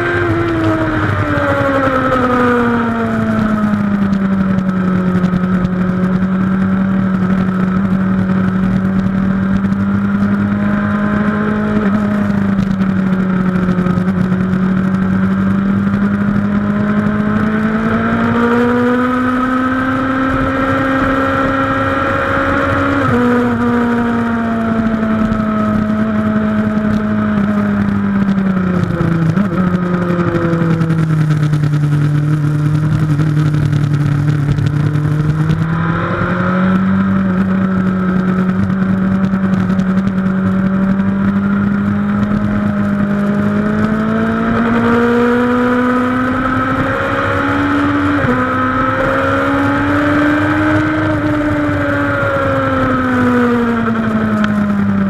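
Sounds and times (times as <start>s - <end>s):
motorcycle engine at speed: 0.0s - 55.0s
wind rush on microphone: 0.0s - 55.0s.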